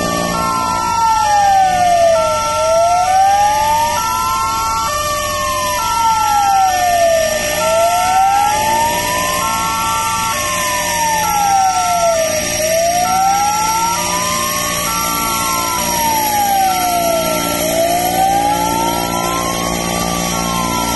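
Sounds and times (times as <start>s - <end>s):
fire truck siren wailing: 0.0s - 20.9s.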